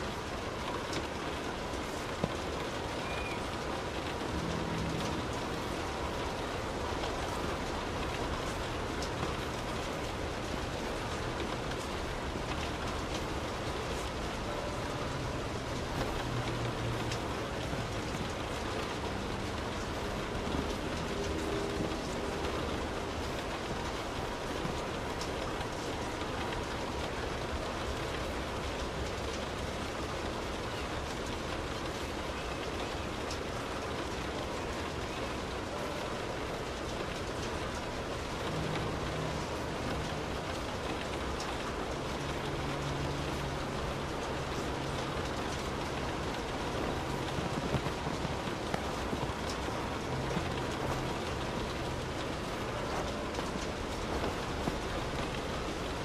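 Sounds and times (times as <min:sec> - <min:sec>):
rain on car roof and windows: 0:00.0 - 0:56.0.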